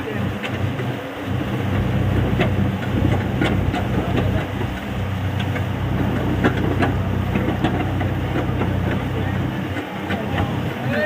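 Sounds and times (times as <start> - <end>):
drilling rig engine running: 0.0 - 11.0
sharp clicks and knocks: 1.7 - 10.6.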